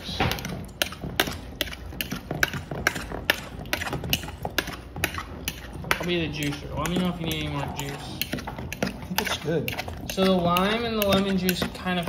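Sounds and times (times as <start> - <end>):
metal utensil scraping plastic bowl: 0.0 - 12.0.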